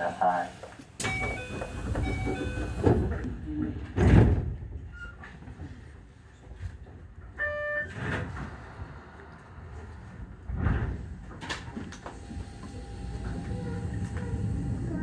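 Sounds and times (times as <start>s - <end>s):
knocks and thumps in train: 0.6s - 15.0s.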